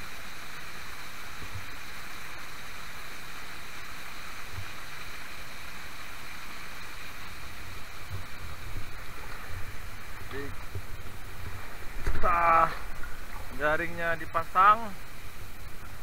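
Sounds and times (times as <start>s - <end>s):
river rushing over rapids: 0.0s - 16.0s.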